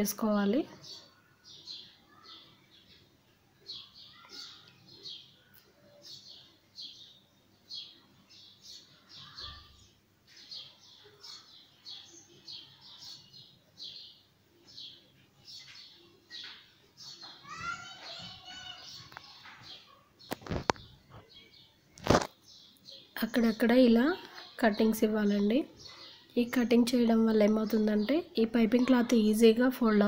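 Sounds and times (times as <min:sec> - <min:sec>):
small bird chirping: 0:00.4 - 0:29.4.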